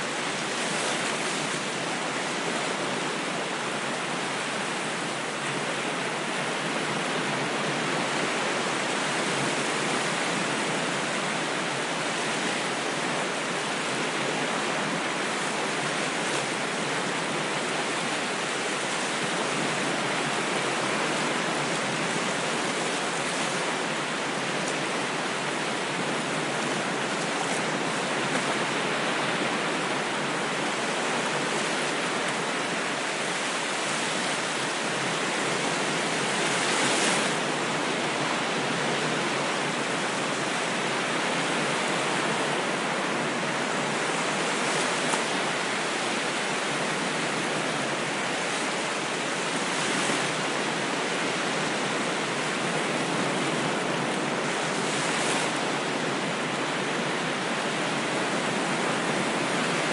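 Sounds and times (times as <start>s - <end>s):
ocean waves and surf: 0.0s - 59.9s.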